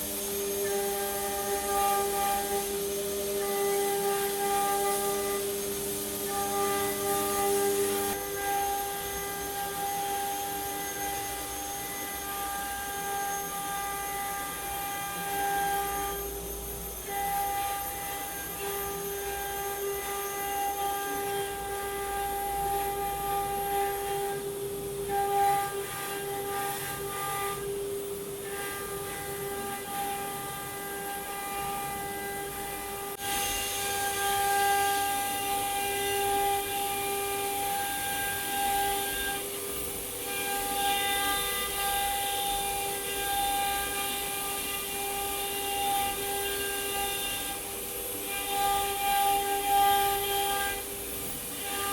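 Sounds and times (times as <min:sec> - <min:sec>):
router spindle high whine: 0:00.0 - 0:51.9.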